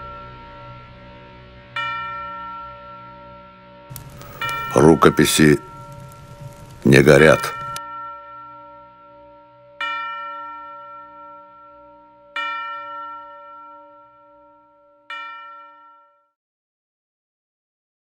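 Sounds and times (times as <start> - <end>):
bell ringing: 1.8 - 16.3.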